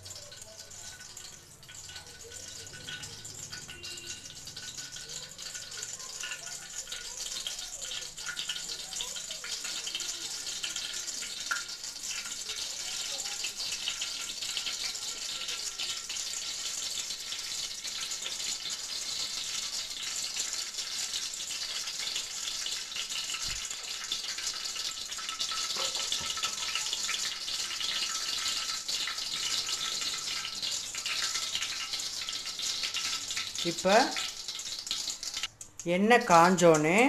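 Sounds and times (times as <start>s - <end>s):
oil hissing and crackling: 0.0s - 36.9s.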